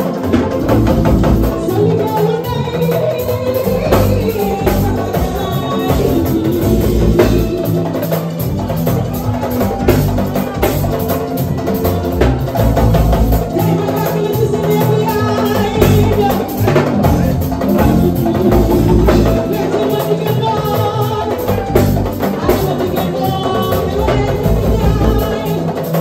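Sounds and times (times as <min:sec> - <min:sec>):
band with drums: 0:00.0 - 0:26.0
woman singing into microphone: 0:00.1 - 0:10.5, 0:12.2 - 0:26.0.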